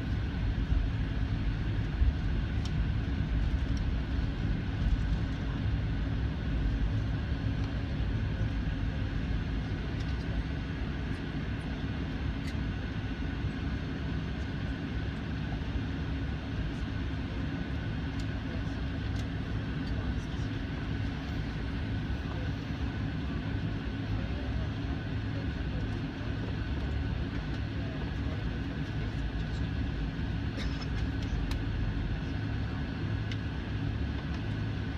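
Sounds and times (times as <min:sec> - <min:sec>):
jet engines rumbling: 0:00.0 - 0:34.9
thin steady whine: 0:00.0 - 0:34.9.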